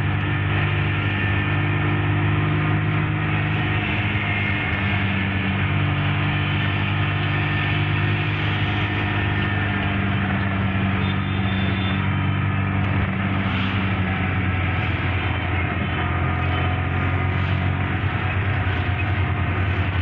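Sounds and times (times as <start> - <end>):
car engine running: 0.0 - 20.0
tyre and road noise: 0.0 - 20.0.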